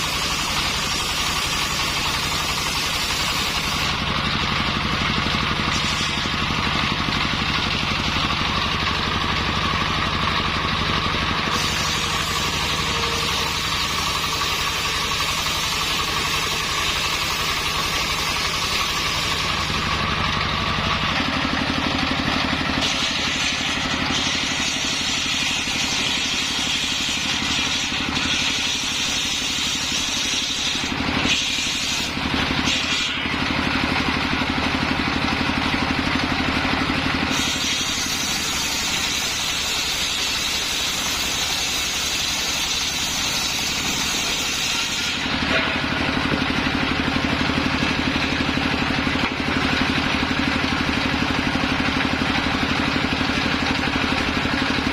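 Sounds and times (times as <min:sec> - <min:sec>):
saw blade cutting wood: 0:00.0 - 0:34.6, 0:36.3 - 0:54.9
circular saw running: 0:00.0 - 0:54.9.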